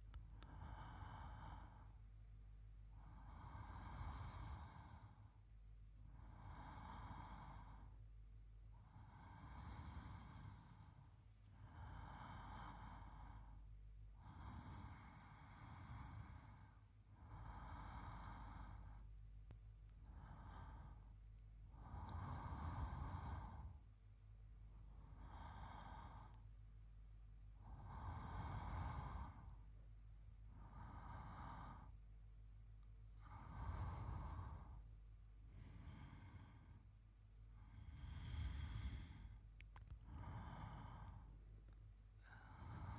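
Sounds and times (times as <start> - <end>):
man's slow sleep breathing: 0.4 - 2.1, 2.8 - 5.5, 6.1 - 8.0, 8.7 - 24.0, 24.6 - 26.6, 27.4 - 29.8, 30.4 - 32.0, 33.0 - 41.5, 42.1 - 42.9.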